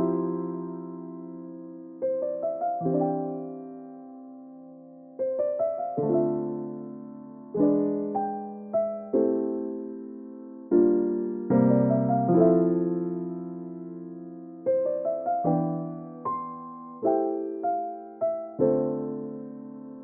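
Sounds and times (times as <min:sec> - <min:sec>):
soft solo piano: 0:00.0 - 0:20.0.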